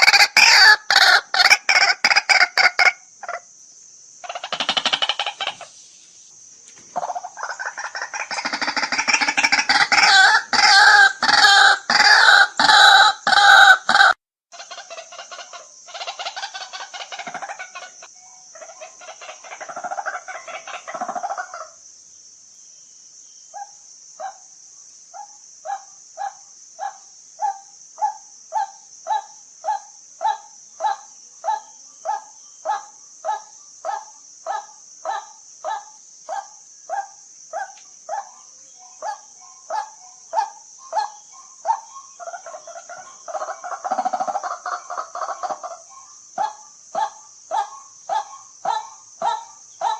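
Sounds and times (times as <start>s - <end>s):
waterhen croaking calls: 0.0s - 3.4s, 4.2s - 5.8s, 7.0s - 21.8s, 28.6s - 49.9s.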